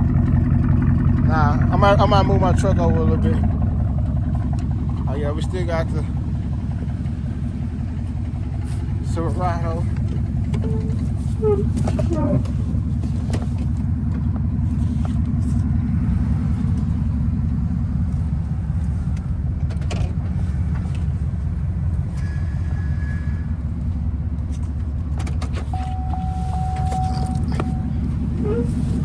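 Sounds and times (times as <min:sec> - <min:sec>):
pickup truck engine idling: 0:00.0 - 0:29.0.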